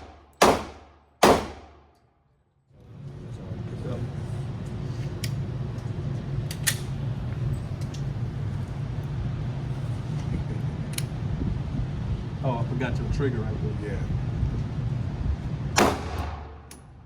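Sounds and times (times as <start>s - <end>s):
ventilation system hum: 0.0s - 17.0s.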